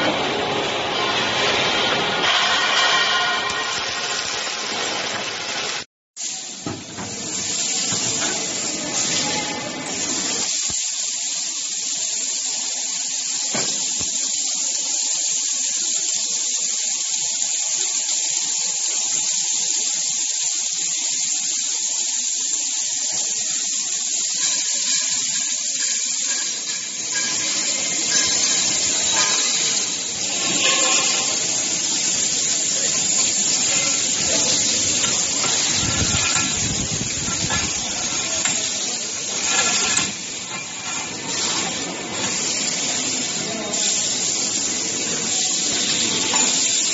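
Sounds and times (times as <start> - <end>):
welding machine hissing: 0.0 - 46.9.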